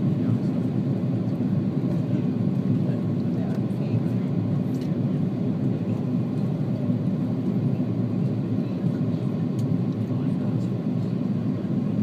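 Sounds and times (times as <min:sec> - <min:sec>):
aircraft cabin drone: 0:00.0 - 0:12.0.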